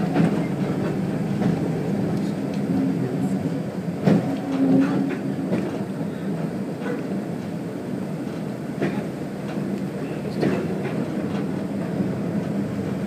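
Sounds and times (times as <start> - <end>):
railbus engine drone: 0.0 - 13.0.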